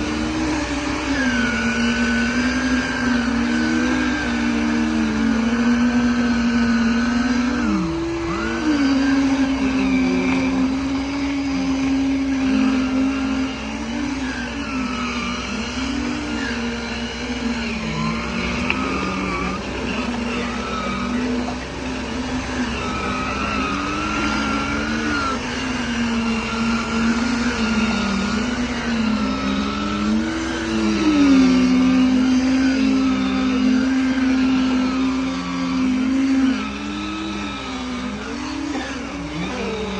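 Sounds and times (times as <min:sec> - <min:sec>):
machinery engines revving: 0:00.0 - 0:39.9.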